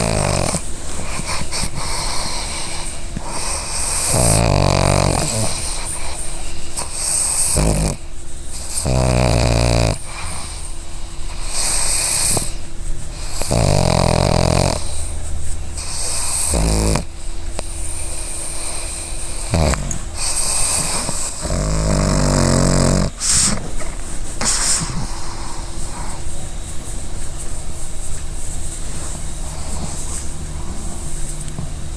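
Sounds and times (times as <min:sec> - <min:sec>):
dog snoring: 0:00.0 - 0:26.5, 0:29.1 - 0:31.3.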